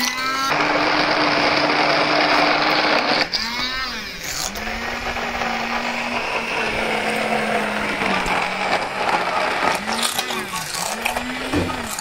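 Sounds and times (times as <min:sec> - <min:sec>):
batter churning: 0:00.0 - 0:12.0
immersion blender running: 0:00.0 - 0:12.0.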